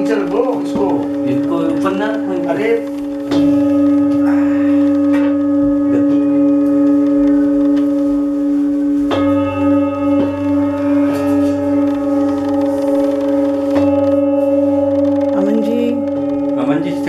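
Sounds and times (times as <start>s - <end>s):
brass singing bowls ringing: 0.0s - 17.0s.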